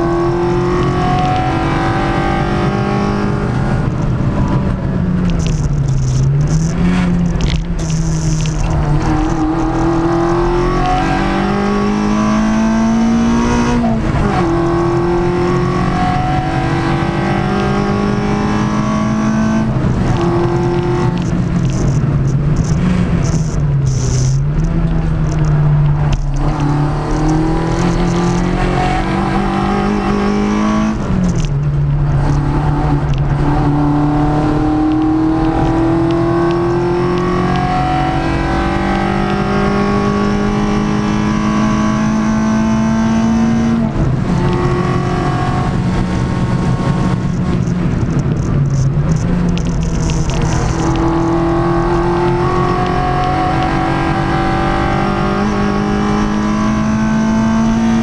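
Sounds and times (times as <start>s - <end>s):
car engine under full throttle: 0.0s - 58.0s.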